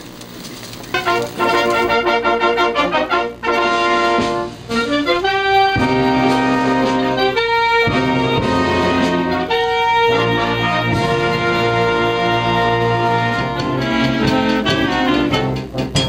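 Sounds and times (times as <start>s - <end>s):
brass band playing slow tune: 1.0s - 16.0s.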